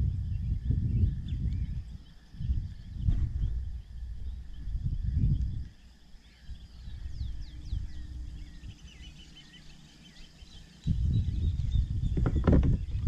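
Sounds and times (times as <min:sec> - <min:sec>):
low rumble on microphone: 0:00.0 - 0:13.0.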